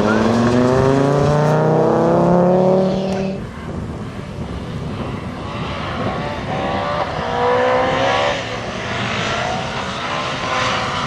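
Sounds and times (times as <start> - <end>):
rally car engine revving: 0.0 - 3.5, 4.4 - 11.0.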